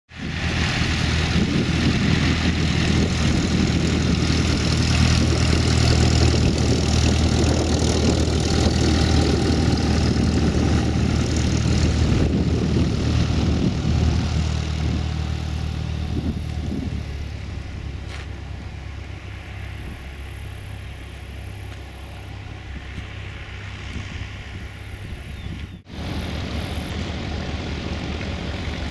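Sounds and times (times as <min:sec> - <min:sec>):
propeller plane engine droning: 0:00.1 - 0:28.9.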